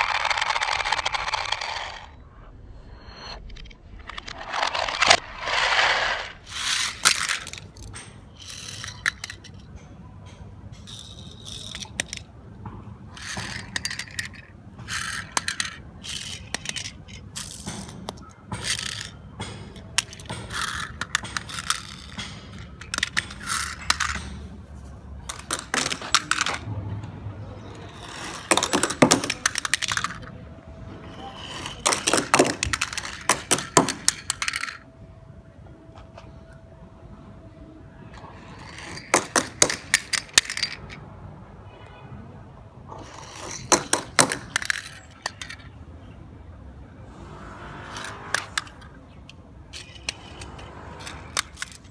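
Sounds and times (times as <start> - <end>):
toy cars clinking: 0.0 - 2.2, 2.9 - 51.9
toy cars scraping on stone: 0.0 - 9.8, 10.7 - 12.3, 13.1 - 34.8, 38.1 - 41.0, 42.9 - 45.7, 47.0 - 51.9.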